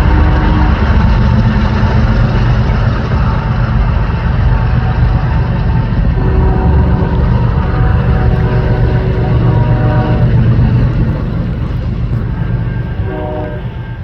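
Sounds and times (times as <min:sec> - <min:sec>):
freight train wheels on rails: 0:00.0 - 0:14.0
low tone: 0:00.0 - 0:14.0.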